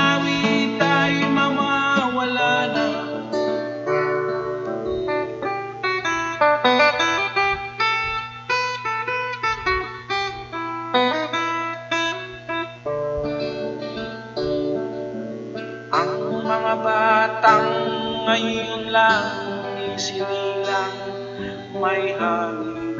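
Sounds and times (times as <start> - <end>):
acoustic guitar playing: 0.0 - 22.9.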